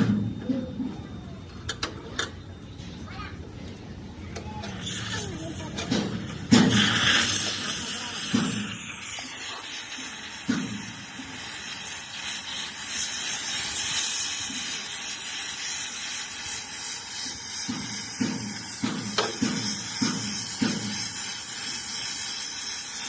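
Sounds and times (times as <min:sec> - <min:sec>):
high-pitched hiss: 0:04.5 - 0:23.0.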